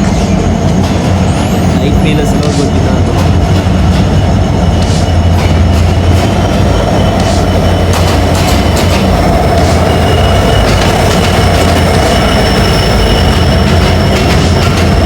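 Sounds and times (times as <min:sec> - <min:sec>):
high wheel squeal: 0:00.0 - 0:15.0
rail clacks: 0:00.0 - 0:15.0
train wheels rumbling on track: 0:00.0 - 0:15.0.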